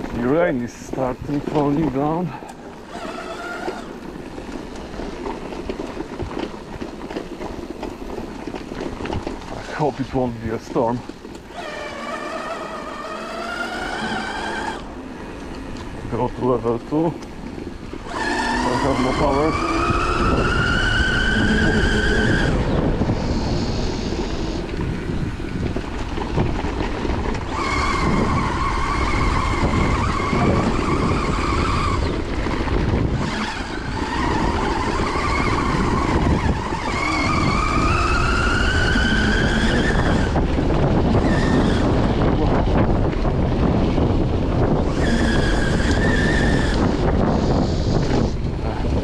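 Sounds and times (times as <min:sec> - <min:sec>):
tyres rolling on dirt: 0:00.0 - 0:49.0
electric bike motor whine: 0:01.3 - 0:49.0.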